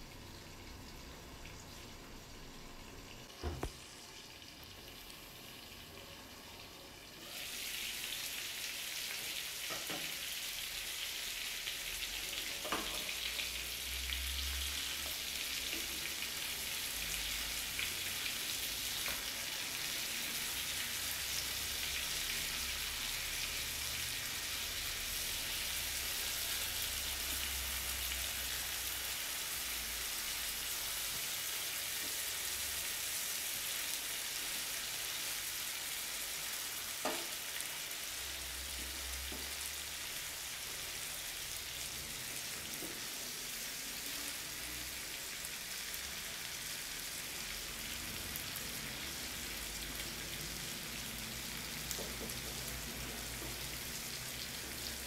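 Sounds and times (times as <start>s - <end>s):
oil sizzling in a pan: 0.0s - 55.0s.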